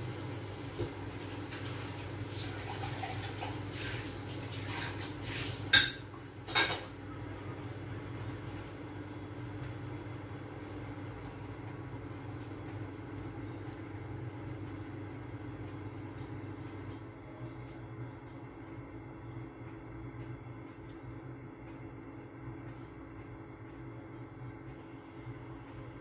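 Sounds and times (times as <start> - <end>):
low stove hum: 0.0 - 26.0.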